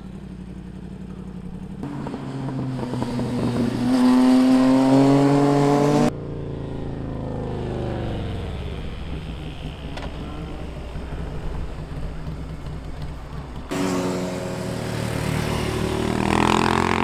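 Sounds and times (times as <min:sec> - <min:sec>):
high-revving motorcycle engine: 0:00.0 - 0:17.0
motorcycle passing by: 0:01.1 - 0:17.0.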